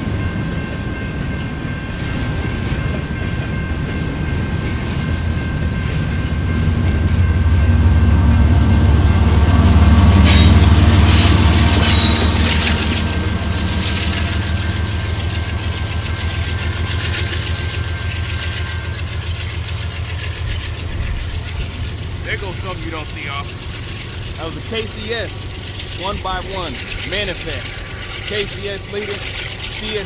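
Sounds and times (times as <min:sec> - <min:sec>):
diesel locomotive passing: 0:00.0 - 0:30.0
freight train rumbling and clattering: 0:00.0 - 0:30.0.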